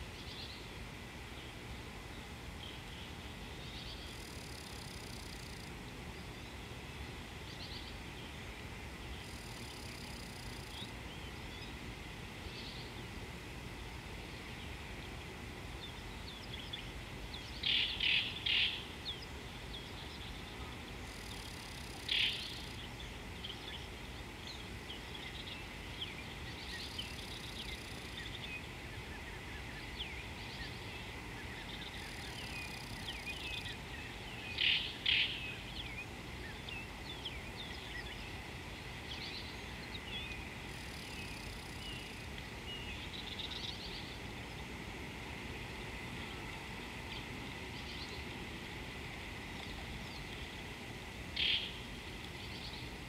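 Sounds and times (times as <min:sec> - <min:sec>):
small birds chirping: 0:00.0 - 0:13.2, 0:14.1 - 0:44.8, 0:45.6 - 0:48.5, 0:49.4 - 0:53.0
low outdoor hiss: 0:00.0 - 0:53.0.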